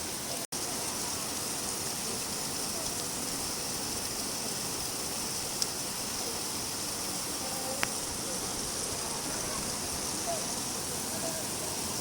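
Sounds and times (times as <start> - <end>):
rain falling hiss: 0.0 - 12.0
raindrops ticking close by: 0.2 - 12.0.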